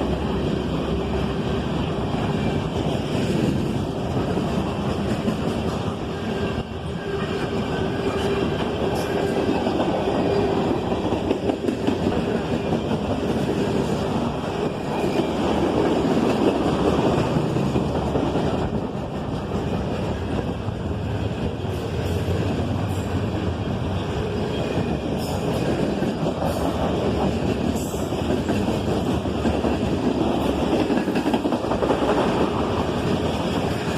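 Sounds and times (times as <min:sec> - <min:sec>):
freight train cars rolling on rails: 0:00.0 - 0:33.9.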